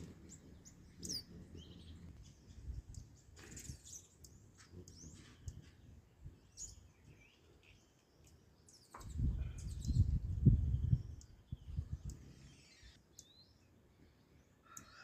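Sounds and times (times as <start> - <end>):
hummingbirds chirping: 0.0 - 15.0.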